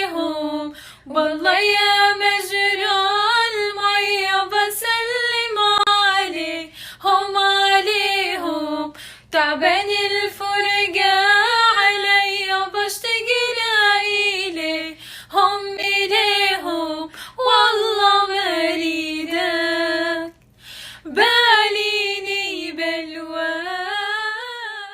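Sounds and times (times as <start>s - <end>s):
woman singing unaccompanied: 0.0s - 20.4s, 21.1s - 24.9s.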